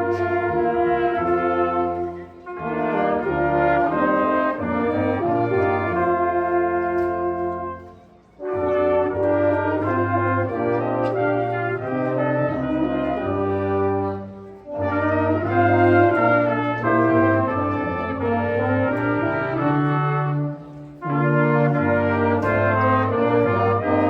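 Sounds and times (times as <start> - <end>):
trombones: 0.0 - 24.0
trumpets: 0.0 - 24.0.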